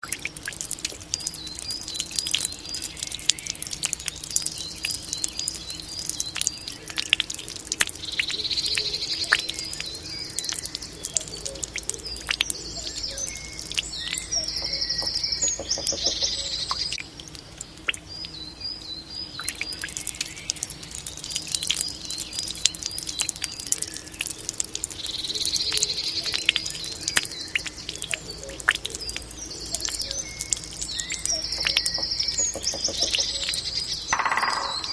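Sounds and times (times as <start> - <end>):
water dripping from bamboo fountain: 0.0 - 34.9
songbirds chirping: 0.1 - 34.9.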